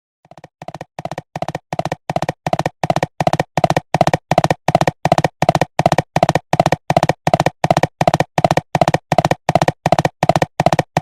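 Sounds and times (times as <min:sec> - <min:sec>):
cartoon galloping hoofbeats: 0:00.2 - 0:11.0.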